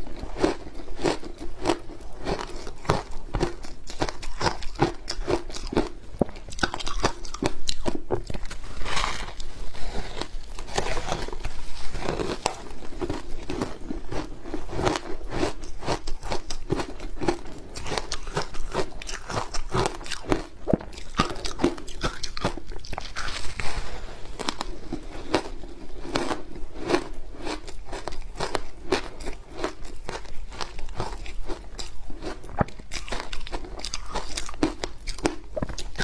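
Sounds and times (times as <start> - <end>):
ice being chewed and crunched: 0.0 - 36.0.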